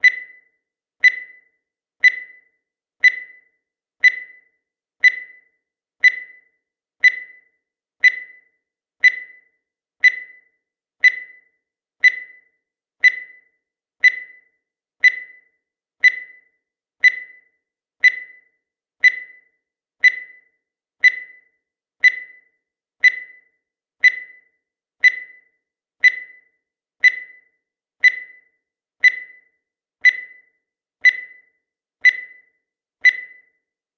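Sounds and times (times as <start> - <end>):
high-pitched timer beeps: 0.0 - 33.8.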